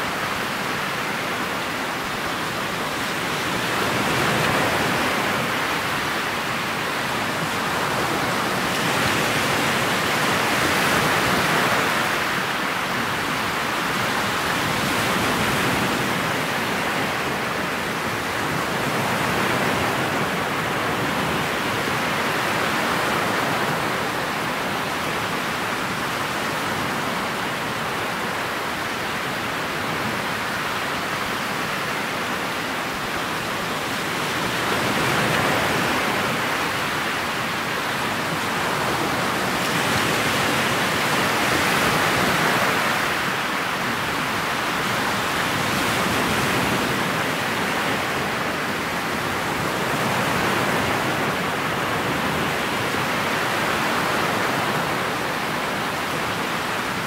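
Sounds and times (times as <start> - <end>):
rushing wind and water: 0.0 - 57.0.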